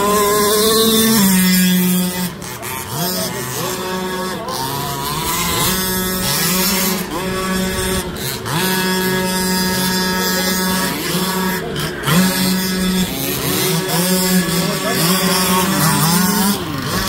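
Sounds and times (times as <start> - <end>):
small two-stroke engine revving: 0.0 - 17.0.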